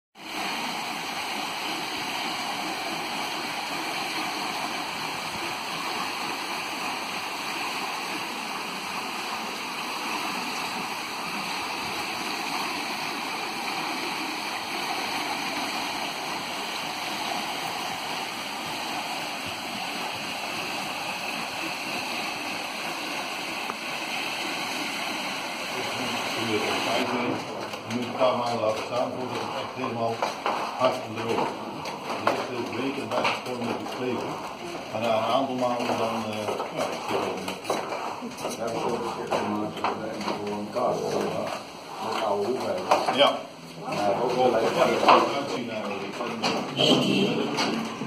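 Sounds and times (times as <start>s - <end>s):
water rushing over stones: 0.2s - 48.0s.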